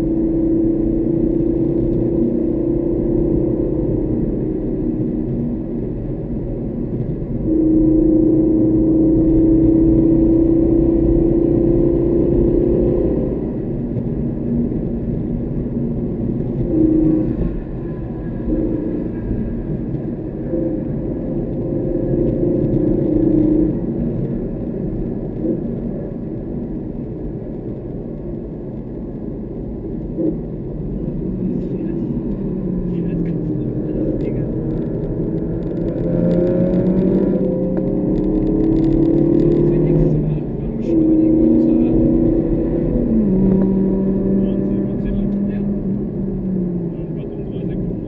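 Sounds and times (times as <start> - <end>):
car engine under load: 0.0 - 48.0
road rumble: 0.0 - 48.0.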